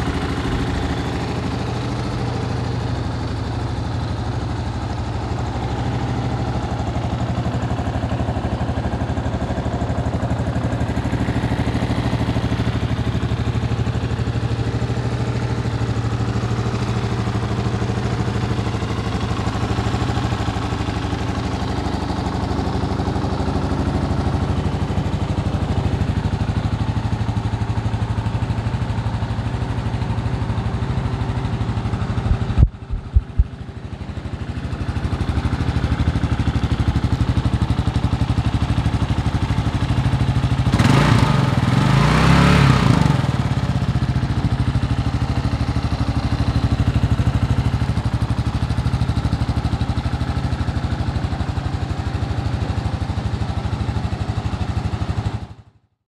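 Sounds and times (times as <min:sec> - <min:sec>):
motorcycle engine idling and revving: 0:00.0 - 0:55.8.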